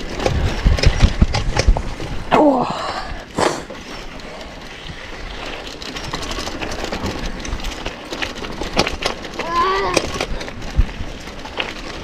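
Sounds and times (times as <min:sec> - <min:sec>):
bike rattles and clicks: 0:00.0 - 0:12.0
bike tyres crunching on gravel: 0:00.0 - 0:12.0.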